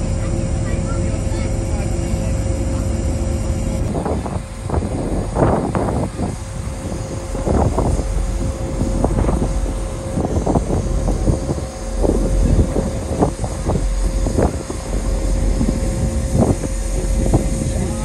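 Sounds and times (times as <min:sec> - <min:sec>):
ship engine rumble: 0:00.0 - 0:18.0
thin steady hum: 0:00.0 - 0:18.0
wind gusting on microphone: 0:00.0 - 0:18.0.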